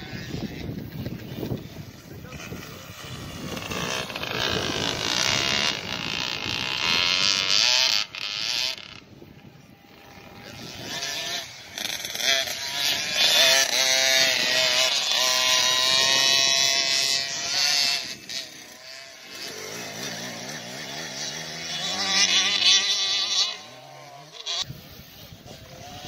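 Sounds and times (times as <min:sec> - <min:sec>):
motocross bike revving: 0:00.0 - 0:26.0.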